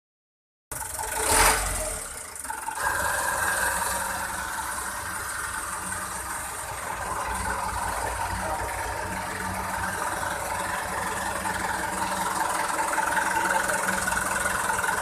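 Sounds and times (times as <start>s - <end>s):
truck diesel engine idling: 0.7s - 15.0s.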